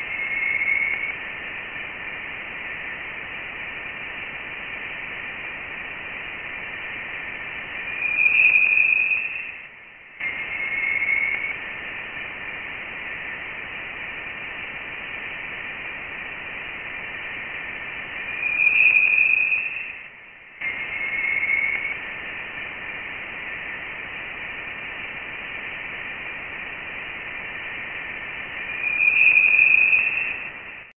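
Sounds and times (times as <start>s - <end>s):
hissing static with high tones: 0.0s - 31.0s.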